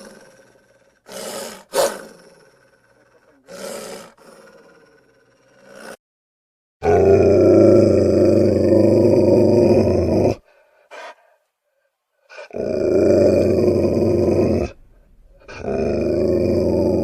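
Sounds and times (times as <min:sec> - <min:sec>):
wolf growling: 0:00.0 - 0:06.0, 0:06.8 - 0:11.1, 0:12.3 - 0:17.0.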